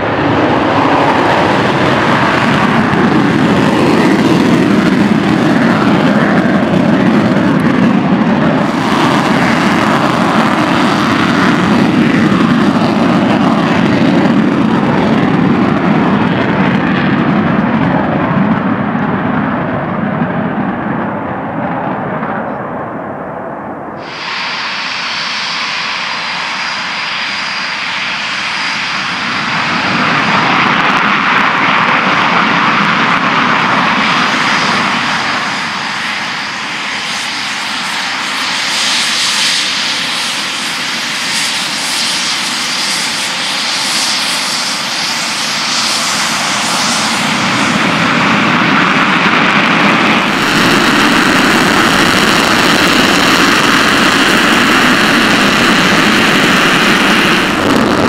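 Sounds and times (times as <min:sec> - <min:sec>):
jet engines with afterburners: 0:00.0 - 0:58.0
jet fighters taxiing: 0:00.0 - 0:58.0.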